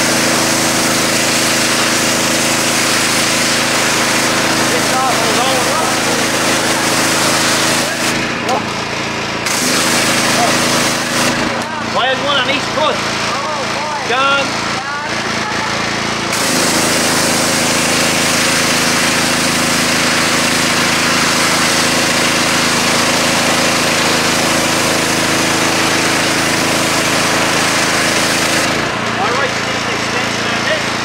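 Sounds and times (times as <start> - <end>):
water jet hissing on asphalt: 0.0 - 8.4, 9.4 - 13.8, 15.2 - 30.2
pressure washer engine running: 0.0 - 31.0.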